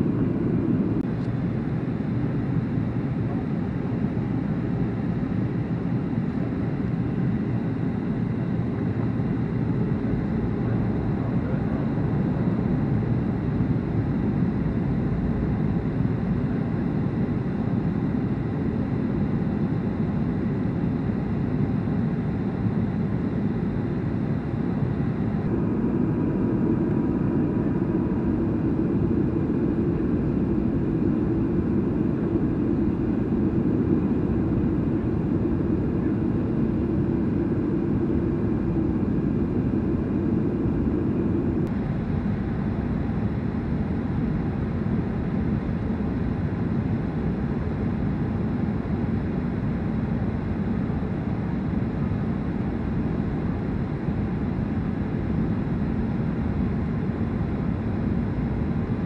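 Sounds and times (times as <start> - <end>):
jet engines in airplane cabin: 0.0 - 59.0.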